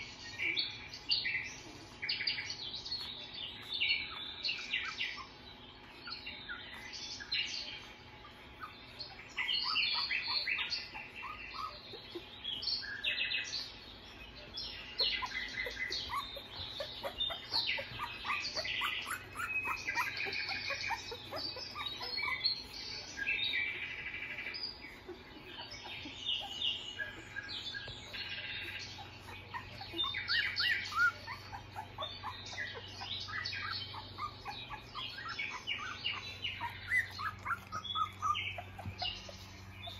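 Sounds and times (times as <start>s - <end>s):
puppies squeaking: 0.4s - 39.9s.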